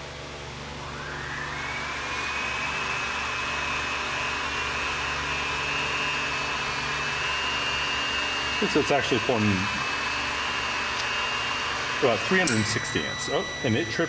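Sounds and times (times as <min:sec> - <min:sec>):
high-pitched whine: 0:00.0 - 0:14.0
load test rig blower rush: 0:00.5 - 0:13.4.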